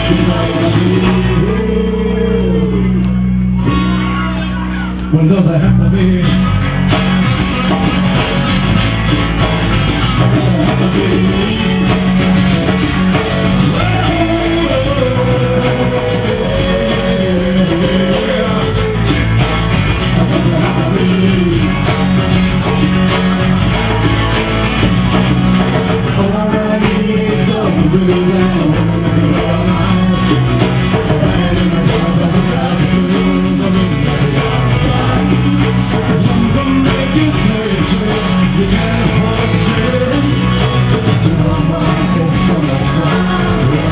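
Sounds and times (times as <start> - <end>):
person singing: 0.0 - 8.3, 10.0 - 43.9
rock band playing live: 0.0 - 43.9.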